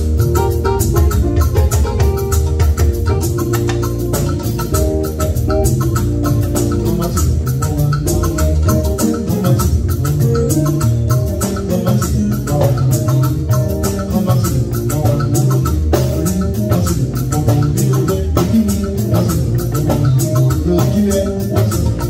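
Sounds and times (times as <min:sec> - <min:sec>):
hand percussion: 0:00.0 - 0:22.0
upbeat band music: 0:00.0 - 0:22.0.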